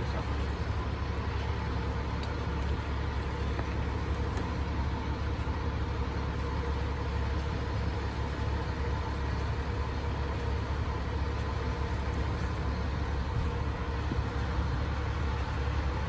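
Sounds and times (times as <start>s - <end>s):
fire engine idling: 0.0s - 16.0s.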